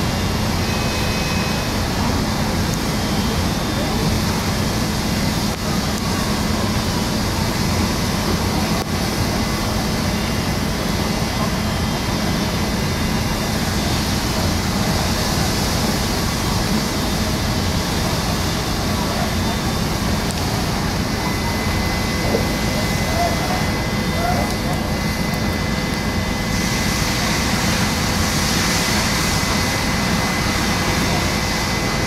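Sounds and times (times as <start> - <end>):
fire engine pump running: 0.0 - 32.0.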